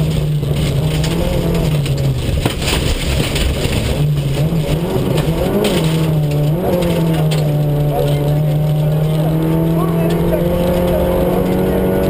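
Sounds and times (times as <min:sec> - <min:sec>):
rally car engine from inside: 0:00.0 - 0:12.0.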